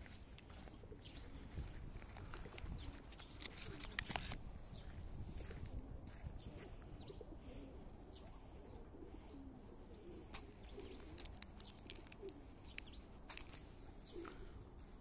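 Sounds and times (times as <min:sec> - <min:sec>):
small birds chirping: 0:00.0 - 0:15.0
pigeons cooing: 0:00.5 - 0:13.0, 0:13.8 - 0:14.8.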